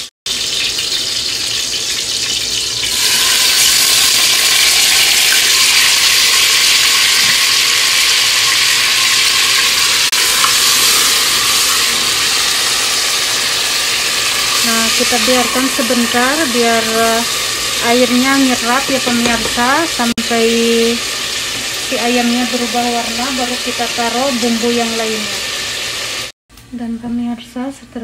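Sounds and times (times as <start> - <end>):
hot oil sizzling in a pot: 0.0 - 26.4.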